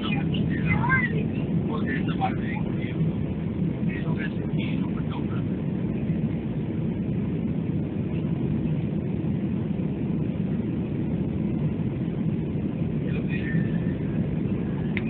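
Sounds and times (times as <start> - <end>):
aircraft cabin engine rumble: 0.0 - 15.0.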